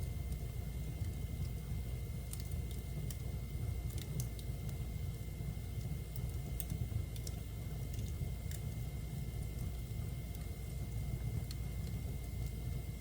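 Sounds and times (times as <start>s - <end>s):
fire crackling and popping: 0.0s - 13.0s
low steady fire rumble: 0.0s - 13.0s.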